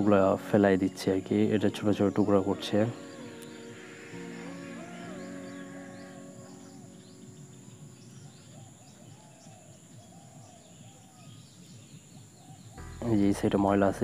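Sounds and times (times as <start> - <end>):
high insect drone: 0.0 - 14.0
bird calling: 1.2 - 12.8.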